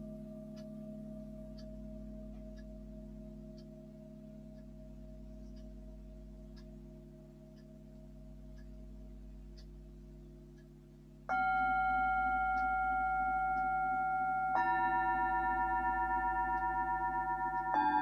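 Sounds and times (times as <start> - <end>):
singing bowls ringing: 0.0 - 8.4, 11.3 - 18.0.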